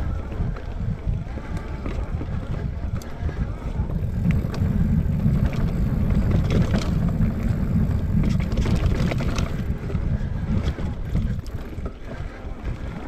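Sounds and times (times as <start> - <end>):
bike clicks and rattles: 0.0 - 13.0
wind buffeting microphone: 0.0 - 13.0
tyres rolling over dirt: 1.4 - 13.0.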